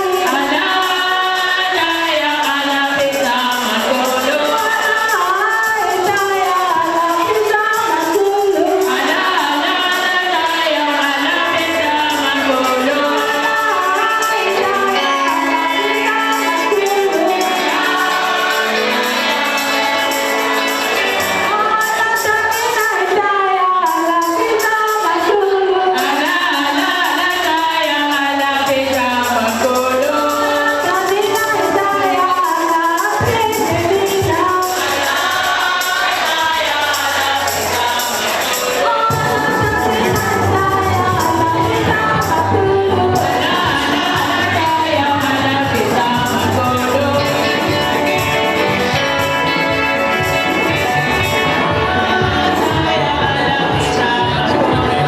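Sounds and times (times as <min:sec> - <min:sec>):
choir singing gospel: 0:00.0 - 0:24.1, 0:25.1 - 0:55.0
musical accompaniment: 0:00.0 - 0:55.0
tambourine: 0:00.0 - 0:55.0.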